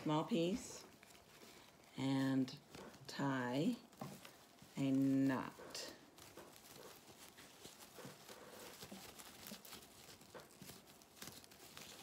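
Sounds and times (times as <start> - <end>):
ribbon rustling and crinkling: 0.0 - 12.0.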